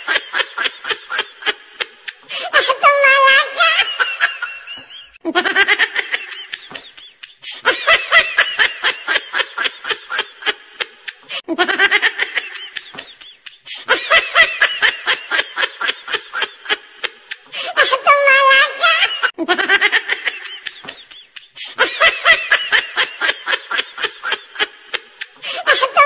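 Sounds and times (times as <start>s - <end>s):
high-pitched laughter: 0.0s - 26.0s.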